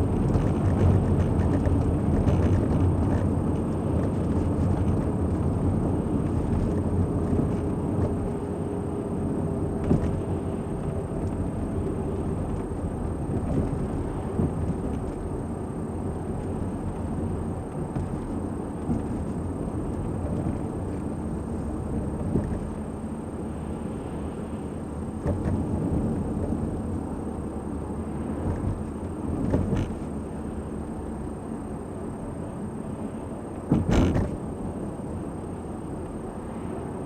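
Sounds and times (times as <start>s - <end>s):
car driving on road: 0.0s - 37.0s.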